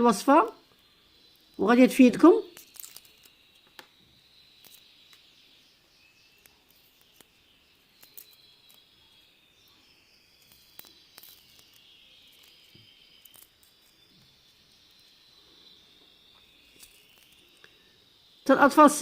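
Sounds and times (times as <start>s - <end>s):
faint high chirring: 0.0s - 19.0s.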